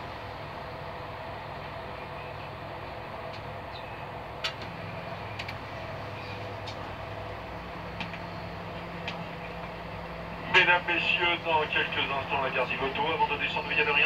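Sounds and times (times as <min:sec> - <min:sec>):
train coach running noise: 0:00.0 - 0:14.0.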